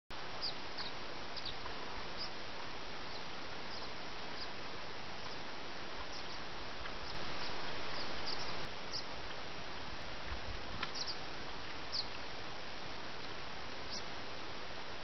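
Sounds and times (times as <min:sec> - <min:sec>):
steady hiss: 0:00.1 - 0:15.0.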